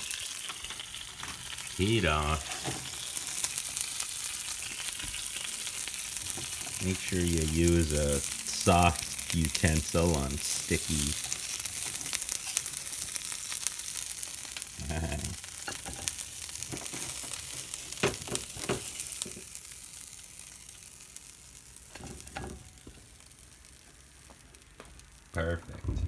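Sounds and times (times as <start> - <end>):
food sizzling in frying pan: 0.0 - 25.5
water boiling in pan: 0.0 - 25.6.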